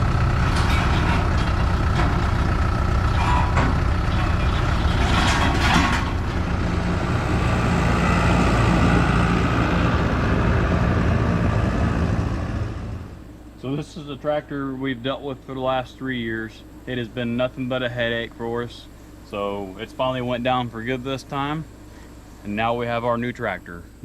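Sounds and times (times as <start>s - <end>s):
heavy vehicle engine running: 0.0s - 22.6s.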